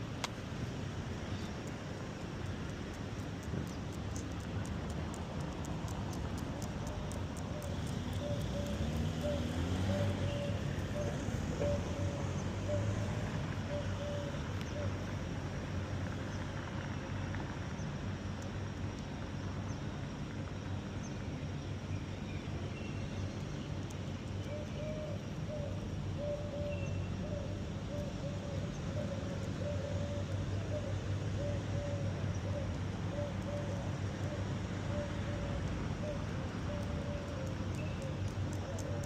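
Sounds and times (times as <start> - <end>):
city traffic hum: 0.0 - 39.0.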